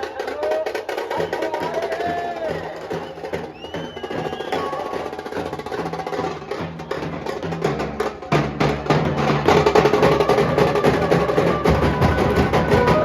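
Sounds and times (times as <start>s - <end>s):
fast dhol and tasha drumming: 0.0s - 13.0s.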